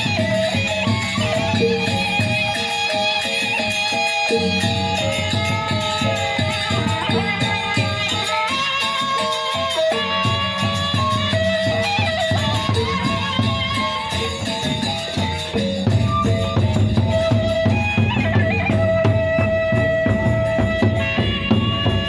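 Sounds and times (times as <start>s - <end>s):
large drums beating rapidly: 0.0s - 22.0s
wind instrument melody: 0.0s - 22.0s.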